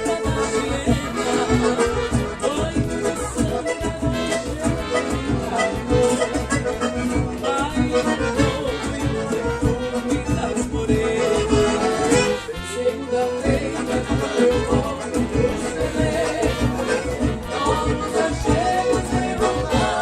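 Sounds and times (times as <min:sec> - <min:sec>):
accordion dance music: 0:00.0 - 0:20.0.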